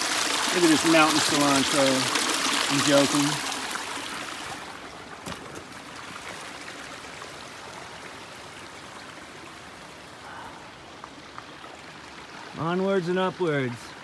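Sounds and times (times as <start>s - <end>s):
mountain stream running: 0.0s - 14.0s.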